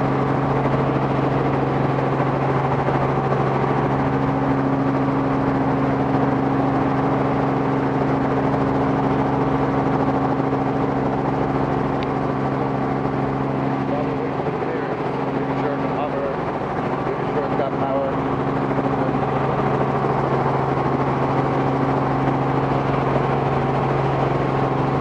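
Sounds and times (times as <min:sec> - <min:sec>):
helicopter engine and rotors: 0:00.0 - 0:25.0.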